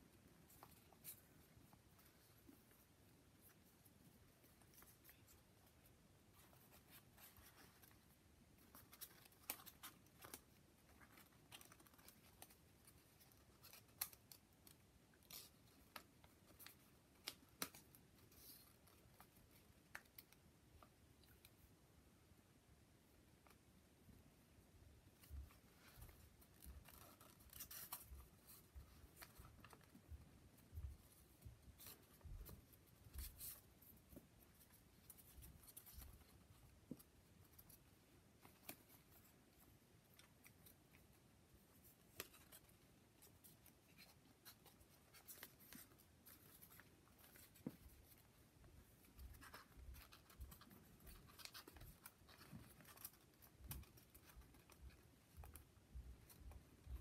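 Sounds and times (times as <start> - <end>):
paper rustling and crinkling: 0.1 - 20.4, 25.1 - 57.0.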